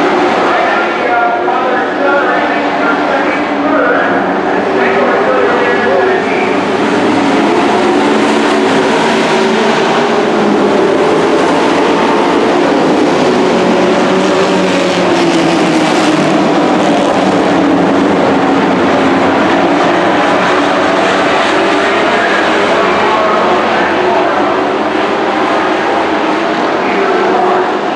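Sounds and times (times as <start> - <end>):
race truck engines running: 0.0 - 27.9.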